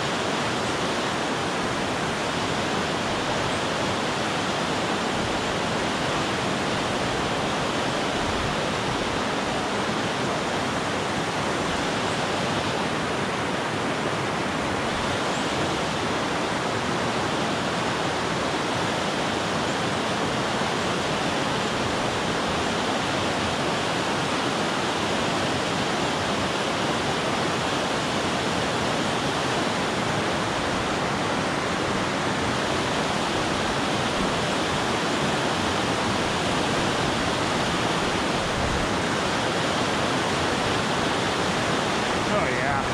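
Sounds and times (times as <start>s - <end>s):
water rushing over rocks: 0.0s - 42.9s.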